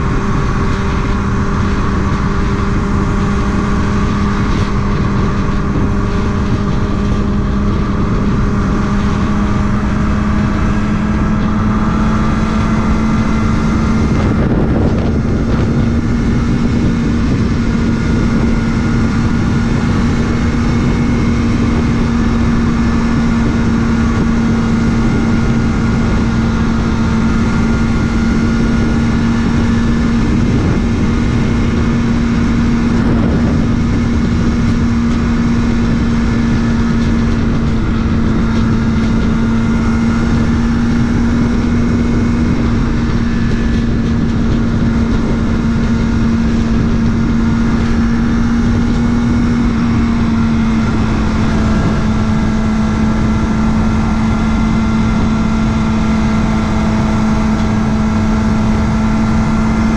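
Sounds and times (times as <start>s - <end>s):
motorcycle engine cruising: 0.0s - 59.9s
wind noise on microphone: 0.0s - 59.9s.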